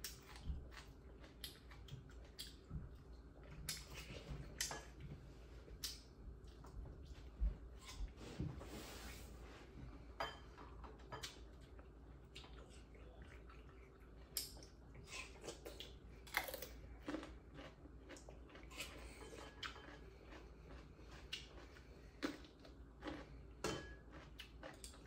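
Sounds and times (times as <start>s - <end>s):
soft chewing: 0.0s - 25.0s.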